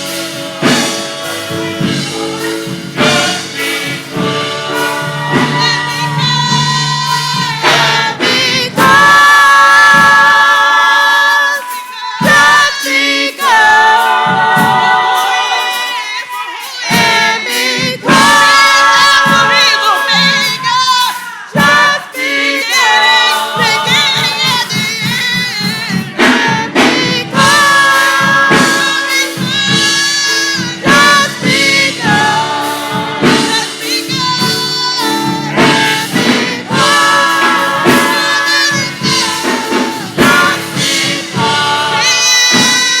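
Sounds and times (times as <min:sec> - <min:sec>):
band accompanying: 0:00.0 - 0:43.0
gospel choir singing: 0:00.0 - 0:43.0.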